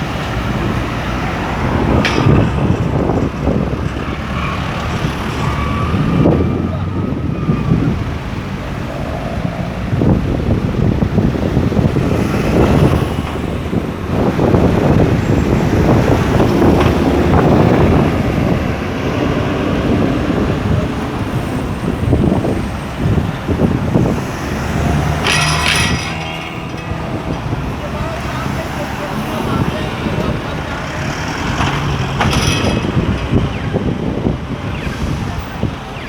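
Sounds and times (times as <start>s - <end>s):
passing vehicle engines rumbling: 0.0s - 36.0s
wind buffeting microphone: 0.0s - 36.0s.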